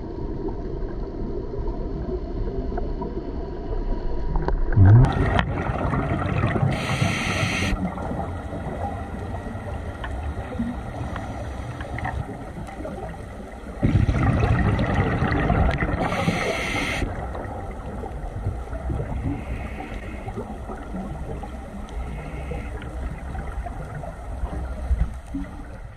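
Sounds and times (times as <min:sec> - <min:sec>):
underwater low rumble: 0:00.0 - 0:25.9
scuba exhaust bubbles: 0:04.6 - 0:25.9.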